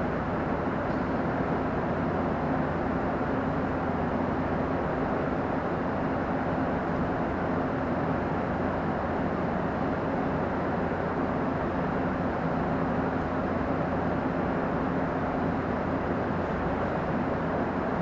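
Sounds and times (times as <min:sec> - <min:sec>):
low rumbling background noise: 0:00.0 - 0:18.0.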